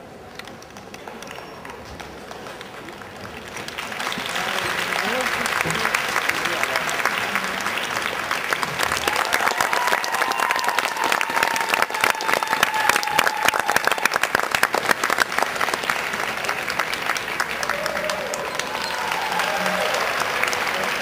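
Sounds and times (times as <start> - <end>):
audience clapping: 0.2 - 21.0.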